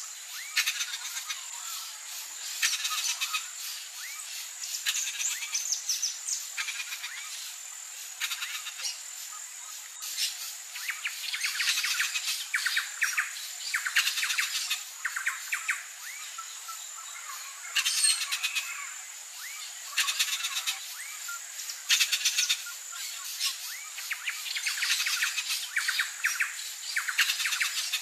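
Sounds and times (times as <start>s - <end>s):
rapid bird chirps: 0.0s - 28.0s.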